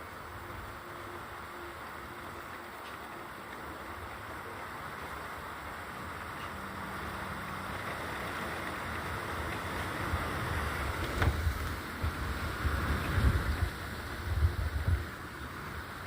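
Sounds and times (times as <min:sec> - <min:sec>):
wind and rain rushing: 0:00.0 - 0:16.0
wind gusts buffeting microphone: 0:02.2 - 0:16.0.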